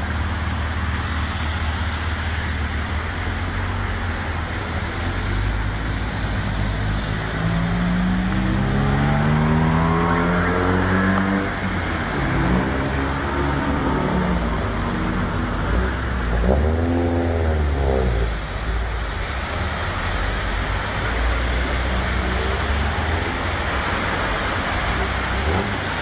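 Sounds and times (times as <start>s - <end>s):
car engines rumbling: 0.0s - 26.0s
water splashing around wheels: 0.0s - 26.0s.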